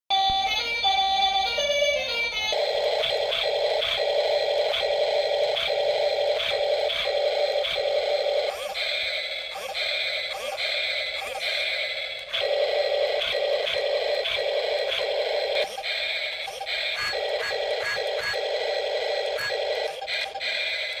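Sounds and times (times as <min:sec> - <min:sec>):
pulsing buzzy electronic sound: 0:02.5 - 0:21.0.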